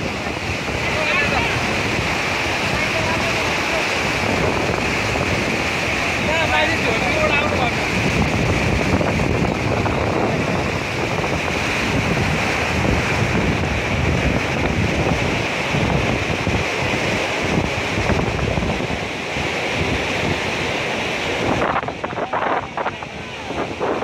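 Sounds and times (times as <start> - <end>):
flooded river roaring: 0.0 - 24.0
wind buffeting microphone: 0.0 - 24.0.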